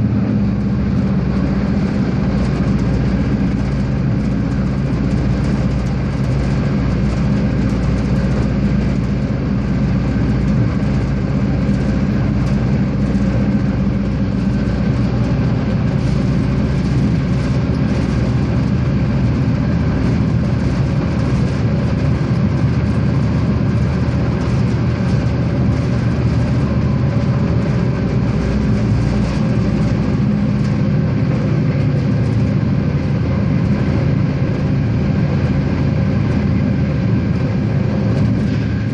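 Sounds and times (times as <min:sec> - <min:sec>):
diesel railcar engine drone: 0:00.0 - 0:38.9
wheel and rail noise: 0:00.0 - 0:38.9.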